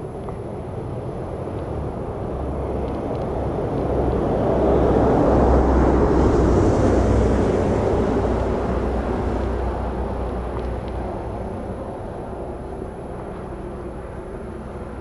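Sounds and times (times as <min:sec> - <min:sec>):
road traffic rushing rumble: 0:00.0 - 0:15.0.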